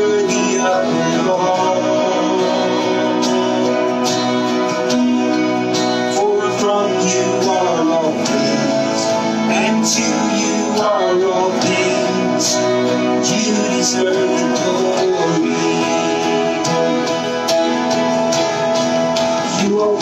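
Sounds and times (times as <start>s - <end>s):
voices singing: 0.0s - 4.8s, 6.0s - 18.0s
guitar: 0.0s - 20.0s.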